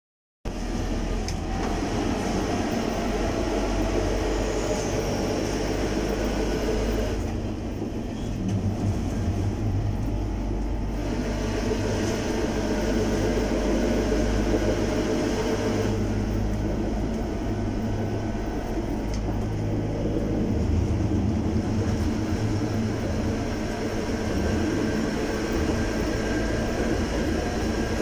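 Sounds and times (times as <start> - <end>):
tram wheels on rails: 0.5 - 28.0.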